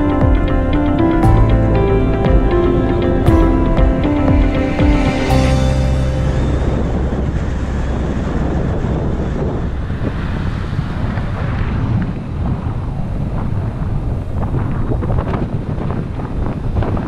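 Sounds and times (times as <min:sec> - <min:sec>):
vehicle running and road noise: 0:00.0 - 0:14.4
wind buffeting microphone: 0:00.0 - 0:17.0.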